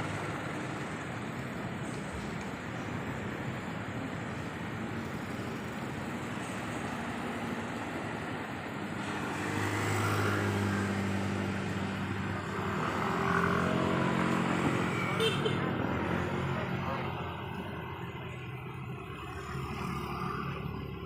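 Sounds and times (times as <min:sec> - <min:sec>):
road traffic noise: 0:00.0 - 0:21.0
vehicle engine hum: 0:00.0 - 0:21.0.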